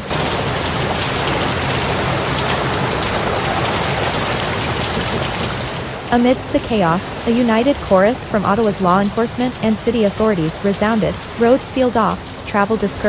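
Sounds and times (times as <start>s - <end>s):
heavy rain on water: 0.0s - 13.0s.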